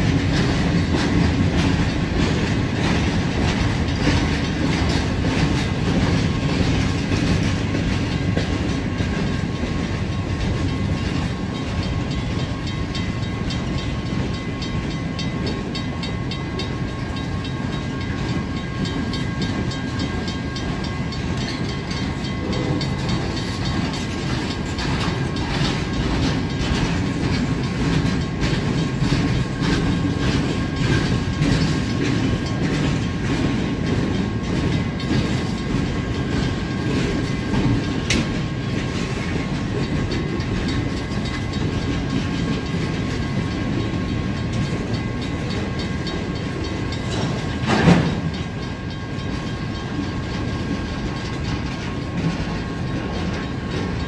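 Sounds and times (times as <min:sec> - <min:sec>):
train cars rumbling: 0:00.0 - 0:54.0
wheels clacking over rail joints: 0:00.0 - 0:54.0.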